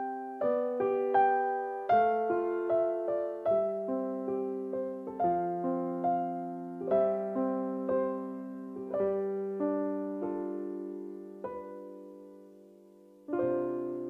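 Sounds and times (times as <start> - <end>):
slow gentle piano piece: 0.0 - 14.0.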